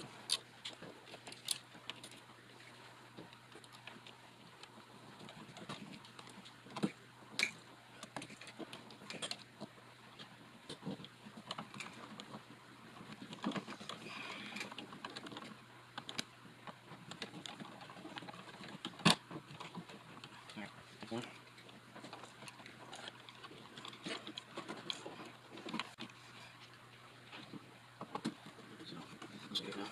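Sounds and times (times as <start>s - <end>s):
rustle: 0.0s - 29.9s.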